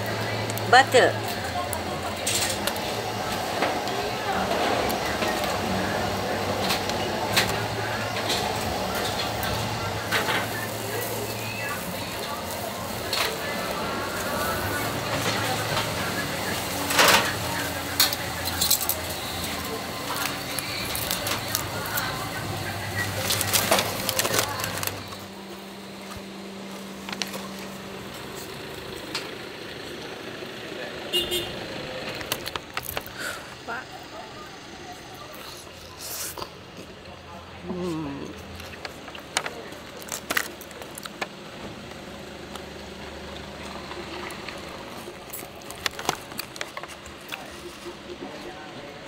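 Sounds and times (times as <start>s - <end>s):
outdoor background rumble: 0.0s - 49.0s.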